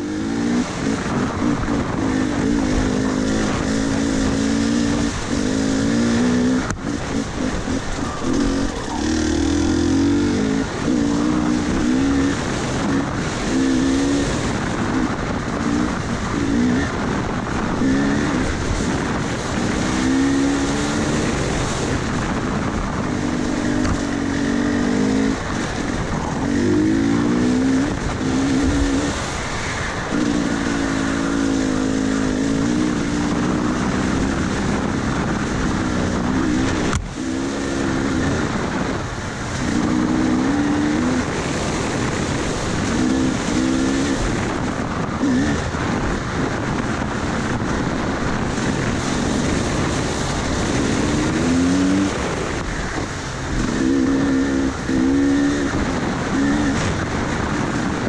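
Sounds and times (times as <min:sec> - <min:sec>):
dirt bike engine revving: 0:00.0 - 0:58.0
wind noise: 0:00.0 - 0:58.0.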